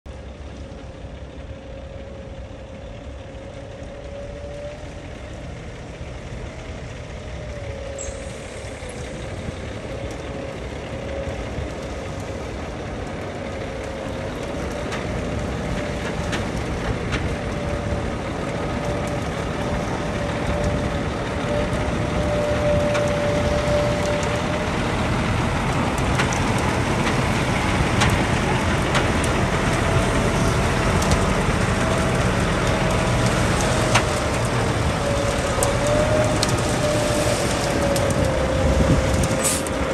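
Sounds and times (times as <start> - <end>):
truck engine rumbling: 0.1 - 39.9.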